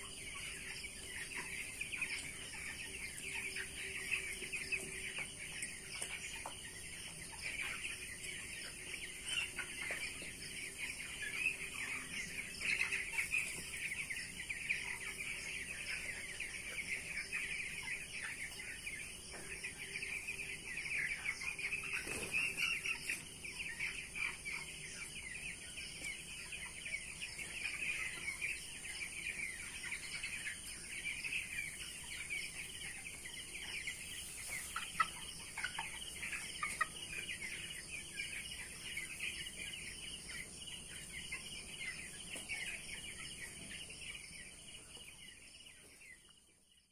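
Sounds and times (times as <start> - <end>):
chicks peeping: 0.0 - 46.7.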